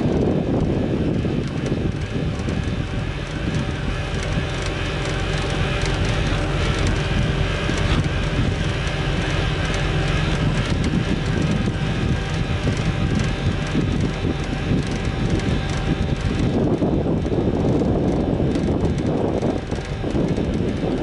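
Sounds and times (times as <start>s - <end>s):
harvester diesel engine and conveyors: 0.0s - 21.0s.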